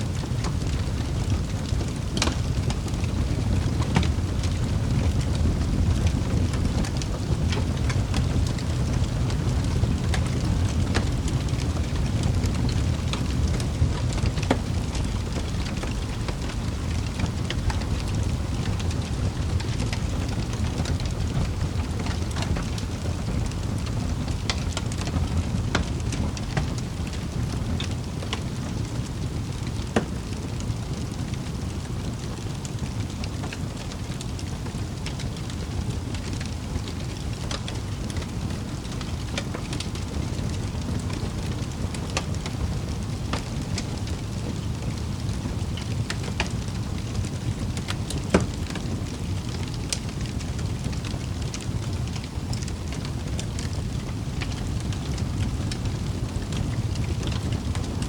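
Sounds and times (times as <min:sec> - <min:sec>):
fire crackles and pops: 0:00.0 - 0:58.0
wood fire rushing flames: 0:00.0 - 0:58.0.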